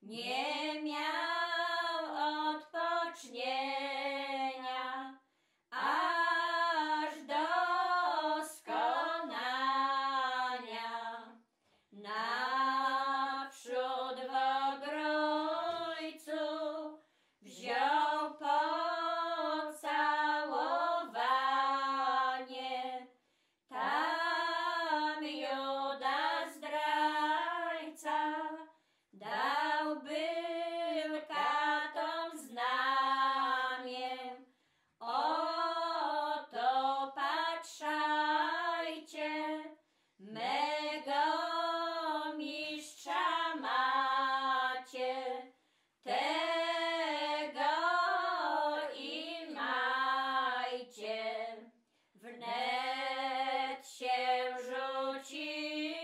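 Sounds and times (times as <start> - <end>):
women singing a hymn unaccompanied: 0.0 - 56.0.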